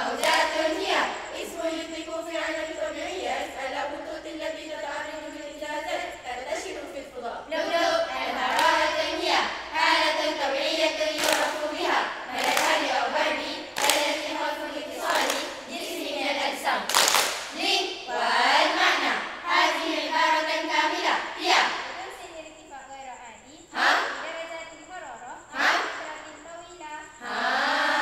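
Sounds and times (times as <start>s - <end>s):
girls' choir chanting in unison: 0.0s - 22.2s, 23.7s - 24.5s, 25.4s - 28.0s.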